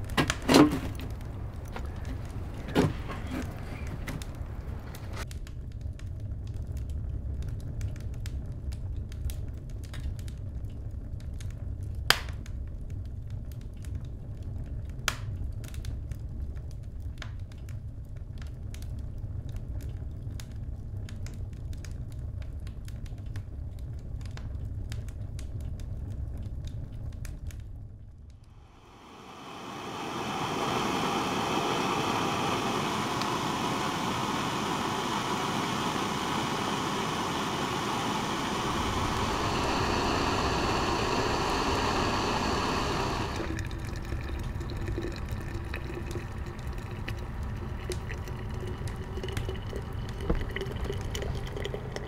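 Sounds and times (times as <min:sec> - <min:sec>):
low stove rumble: 0:00.0 - 0:52.0
wood fire crackling: 0:00.0 - 0:52.0.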